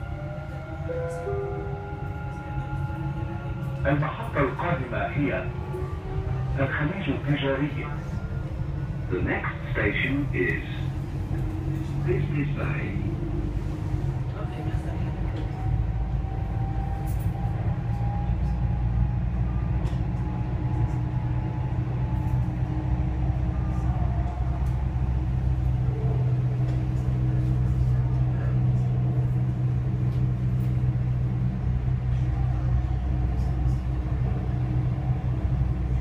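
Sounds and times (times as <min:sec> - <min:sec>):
train running on track: 0:00.0 - 0:36.0.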